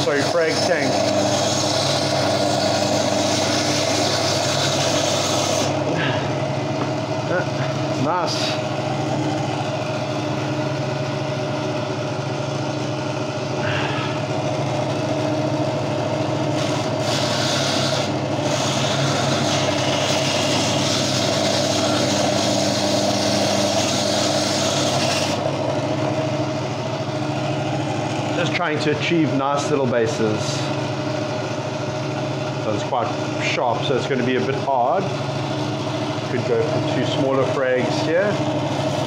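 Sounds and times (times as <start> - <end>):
bandsaw motor hum: 0.0 - 39.0.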